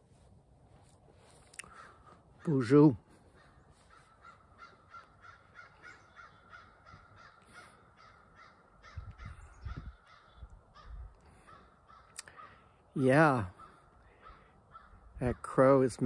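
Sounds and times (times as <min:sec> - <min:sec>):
crow cawing: 0:01.6 - 0:12.9, 0:13.5 - 0:15.2.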